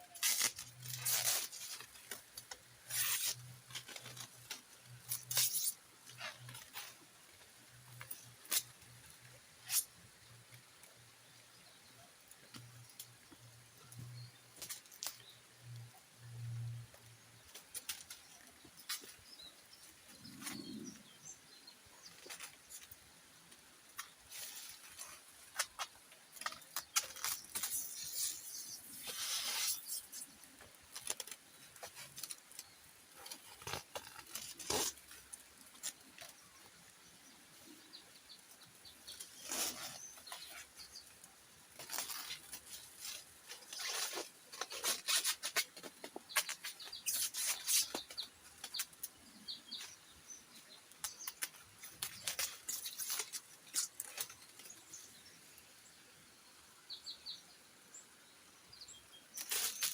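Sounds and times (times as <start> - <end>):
rustling and scraping: 0.0 - 55.3, 59.3 - 59.9.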